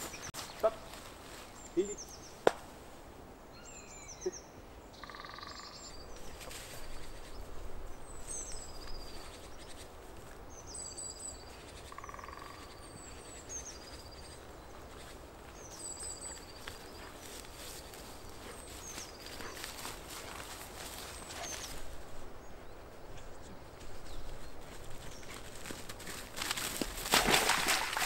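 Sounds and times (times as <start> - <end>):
small birds calling: 0.0 - 2.5, 3.5 - 9.9, 10.5 - 26.2
rustling in dry grass: 0.0 - 3.2, 6.1 - 28.0.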